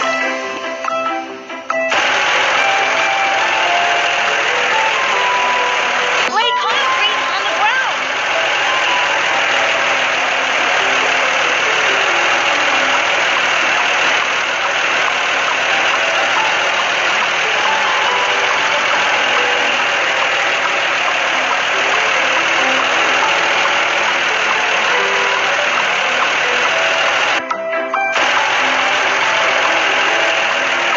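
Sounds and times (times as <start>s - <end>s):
concrete mixer truck engine running: 0.0s - 27.4s, 28.0s - 30.9s.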